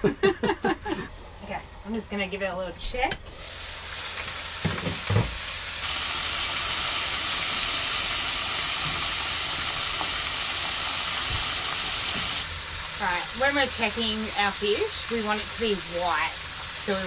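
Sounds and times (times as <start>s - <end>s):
fish sizzling in hot oil: 3.3s - 17.0s.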